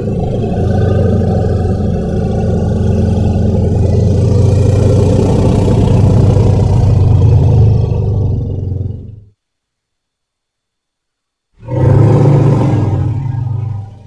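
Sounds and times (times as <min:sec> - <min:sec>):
deep rumbling growl: 0:00.0 - 0:09.4, 0:11.6 - 0:14.0.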